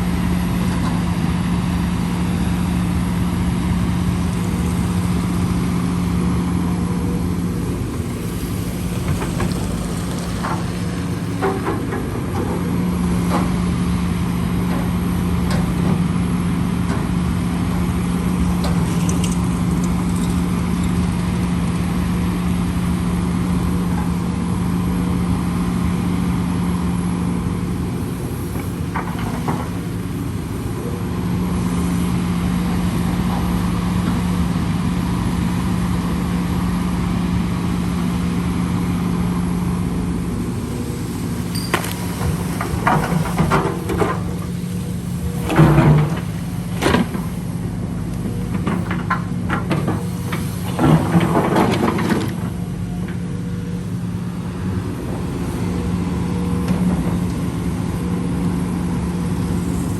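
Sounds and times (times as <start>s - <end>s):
heavy machinery engine drone: 0.0s - 59.9s.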